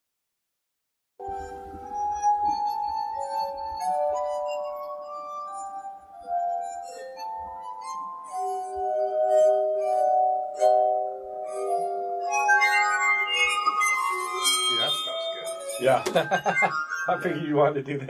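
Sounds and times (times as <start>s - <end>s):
glass harp ringing tones: 1.2s - 18.0s.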